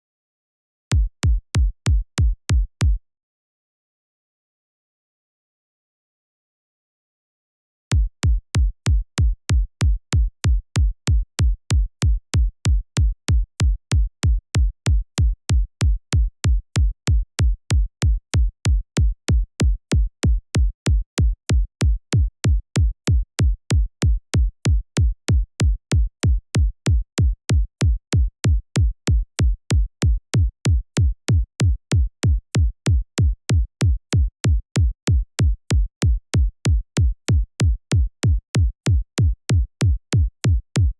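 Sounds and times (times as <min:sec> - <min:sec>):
synthesized kick drum loop: 0:08.0 - 0:40.9.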